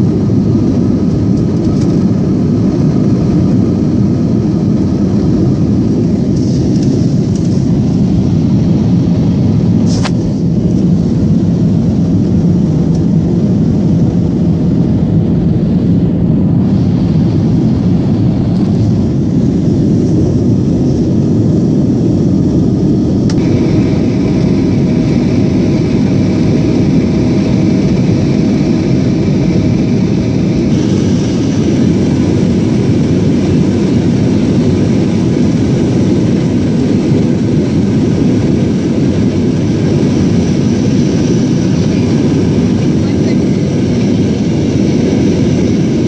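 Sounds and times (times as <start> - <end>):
faint whine: 0.0 - 46.0
jet engine and airflow noise: 0.0 - 46.0.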